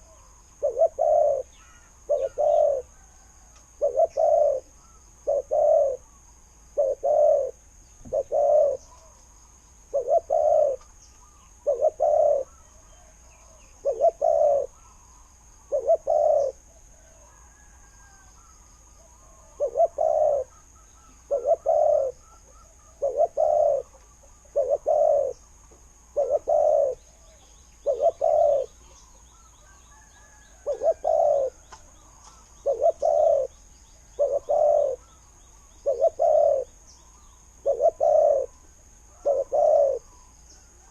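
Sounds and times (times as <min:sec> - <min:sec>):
dove cooing: 0:00.0 - 0:06.1, 0:06.7 - 0:09.2, 0:09.8 - 0:36.8, 0:37.5 - 0:40.9.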